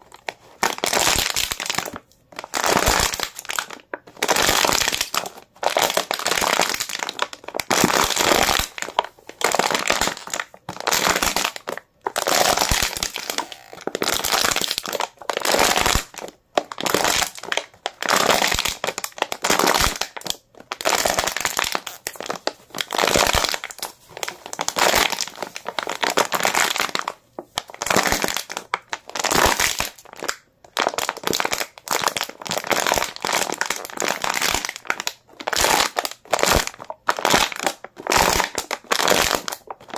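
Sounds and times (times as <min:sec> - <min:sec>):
plastic bottle crinkling: 0:00.0 - 0:39.9.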